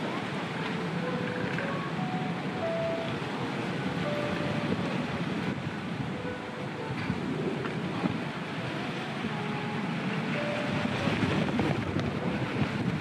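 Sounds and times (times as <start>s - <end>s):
rain falling: 0.0s - 13.0s
wind buffeting microphone: 0.0s - 13.0s.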